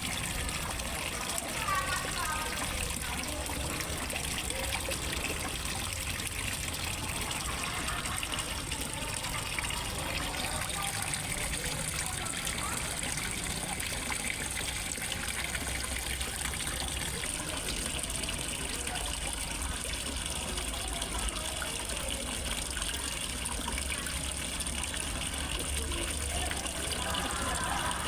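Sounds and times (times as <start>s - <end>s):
water gushing into pond: 0.0s - 28.0s.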